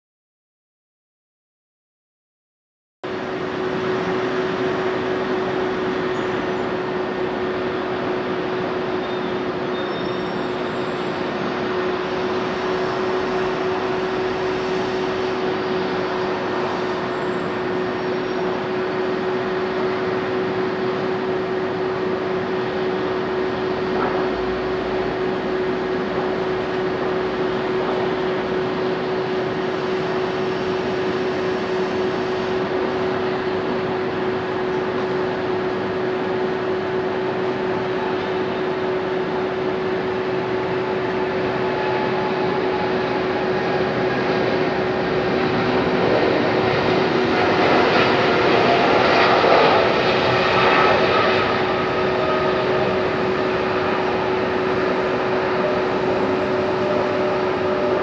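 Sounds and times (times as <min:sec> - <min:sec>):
steady machine drone: 0:03.0 - 0:58.0.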